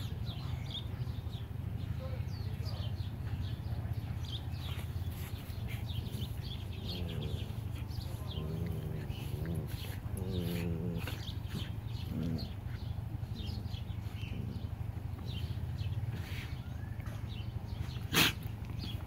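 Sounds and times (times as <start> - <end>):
birds chirping: 0.0 - 19.0
dogs growling: 0.0 - 19.0.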